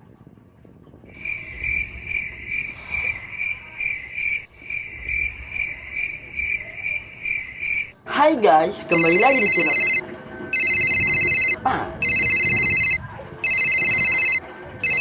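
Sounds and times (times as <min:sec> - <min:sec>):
crickets chirping: 0:01.2 - 0:08.0, 0:08.9 - 0:10.0, 0:10.6 - 0:15.0.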